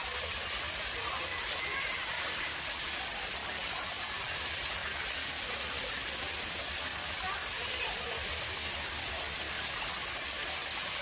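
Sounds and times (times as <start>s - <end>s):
water running into a pond: 0.0s - 11.0s.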